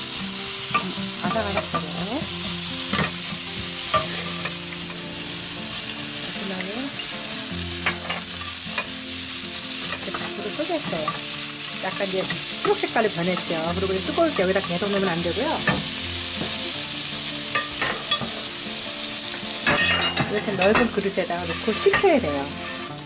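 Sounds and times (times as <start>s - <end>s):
cucumber sizzling in hot oil: 0.0s - 23.0s.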